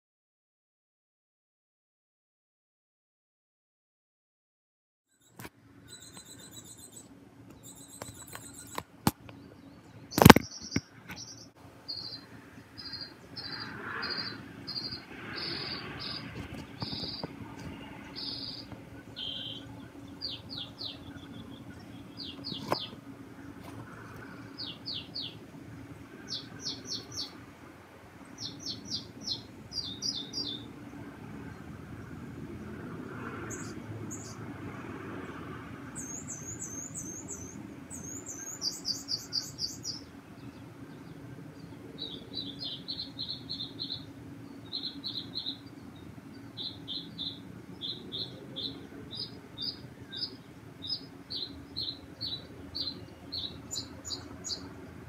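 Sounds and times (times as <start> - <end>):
bird singing: 5.1 - 27.5, 28.2 - 32.2, 33.4 - 34.4, 35.9 - 55.0.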